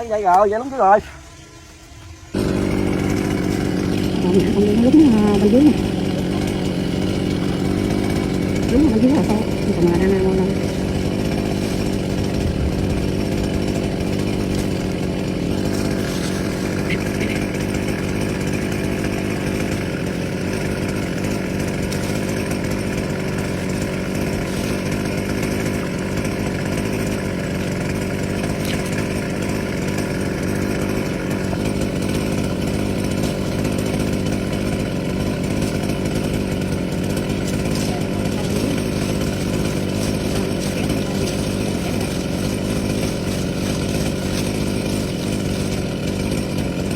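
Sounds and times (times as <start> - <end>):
chainsaw cutting wood: 2.3 - 46.9.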